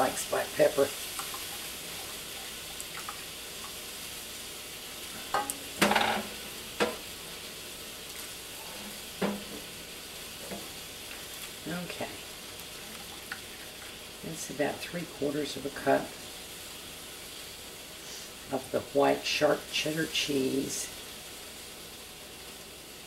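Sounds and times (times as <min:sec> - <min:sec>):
food sizzling on stove: 0:00.0 - 0:23.0.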